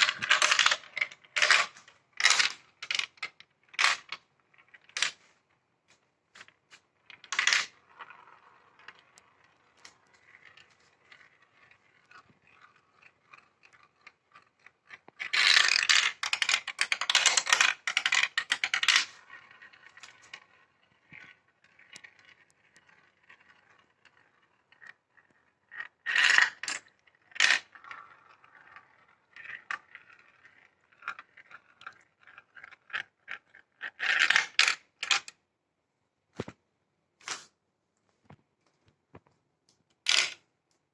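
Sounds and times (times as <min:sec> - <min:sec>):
marbles clattering: 0:00.0 - 0:05.3, 0:06.4 - 0:35.4, 0:40.0 - 0:40.4
marbles rolling on plastic track: 0:00.0 - 0:35.4, 0:39.9 - 0:40.4.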